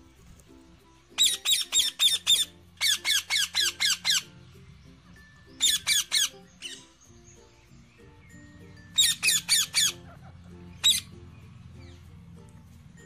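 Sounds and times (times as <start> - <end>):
faint background music: 0.0 - 13.0
parakeets screeching: 1.1 - 12.1.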